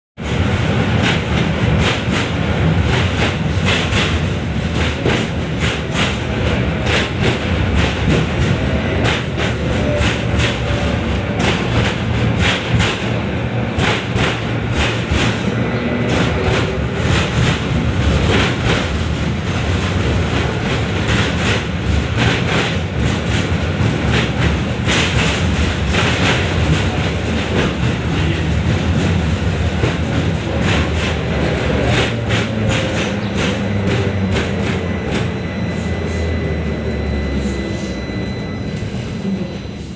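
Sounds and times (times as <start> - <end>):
tram wheels clattering over rail joints: 0.2 - 39.9.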